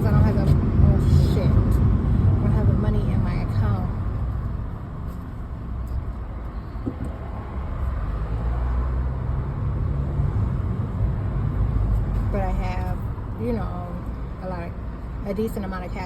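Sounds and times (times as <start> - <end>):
car interior road noise: 0.0 - 16.0.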